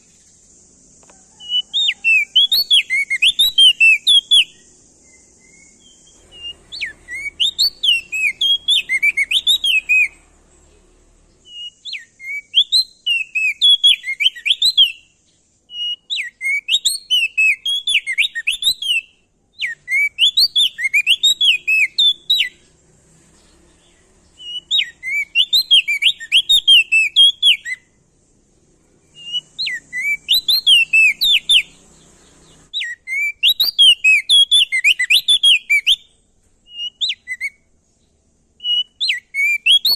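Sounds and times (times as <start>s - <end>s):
faint high hiss: 0.0s - 34.2s
songbird chirping: 0.0s - 39.9s.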